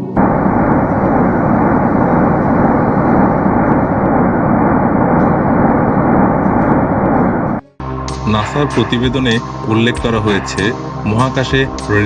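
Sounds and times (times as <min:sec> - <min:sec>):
dull rushing roar of noise: 0:00.0 - 0:12.0.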